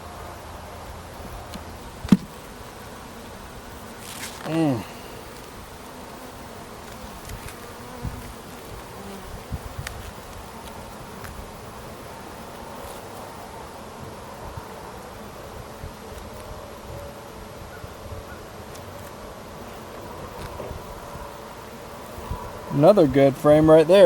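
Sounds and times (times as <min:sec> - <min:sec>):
honeybees buzzing: 0:00.0 - 0:24.0
bee buzzing past: 0:01.1 - 0:23.9.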